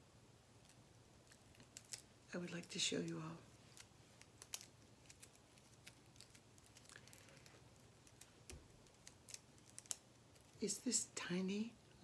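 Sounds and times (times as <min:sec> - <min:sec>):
small items clicking: 0:00.6 - 0:10.6.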